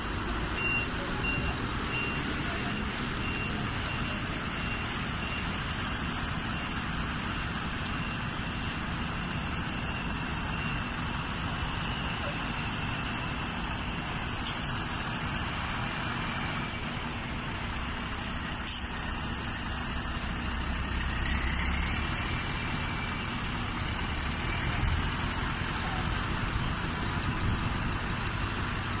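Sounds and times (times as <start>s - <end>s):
road noise: 0.0s - 29.0s
truck engine rumble: 0.0s - 29.0s.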